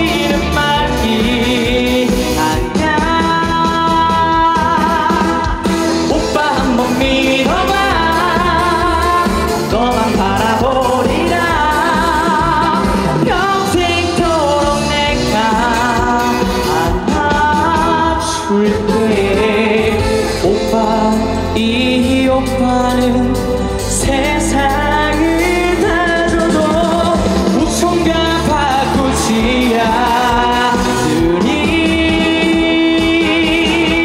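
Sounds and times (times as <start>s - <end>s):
amplified backing track: 0.0s - 34.0s
person singing with vibrato: 0.0s - 34.0s.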